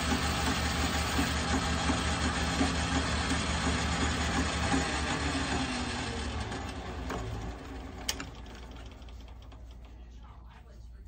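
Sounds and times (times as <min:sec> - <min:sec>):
metal lathe motor and gear whir: 0:00.0 - 0:09.4.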